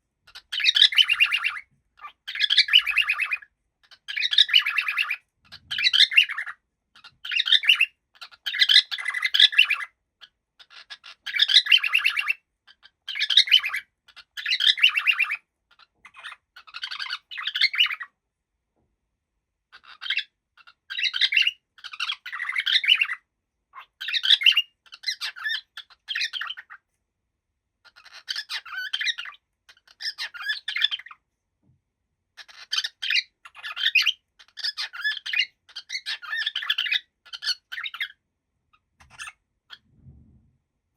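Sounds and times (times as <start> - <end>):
cockatiel chattering and warbling: 0.2 - 18.2, 19.7 - 26.9, 27.8 - 31.3, 32.4 - 39.9.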